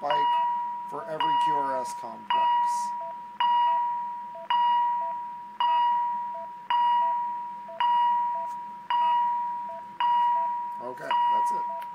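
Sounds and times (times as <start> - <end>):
monitor ringing beep tone: 0.0 - 11.9.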